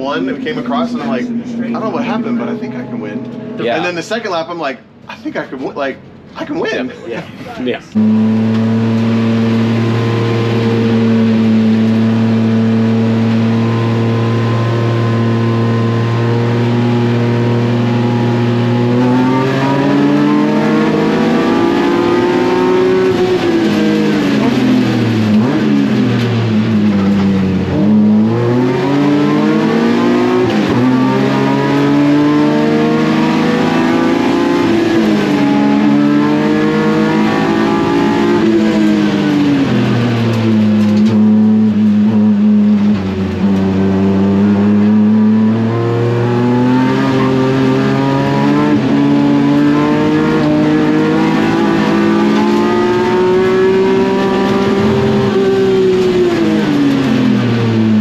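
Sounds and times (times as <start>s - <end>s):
race car engine revving: 0.0s - 5.4s, 7.7s - 58.0s.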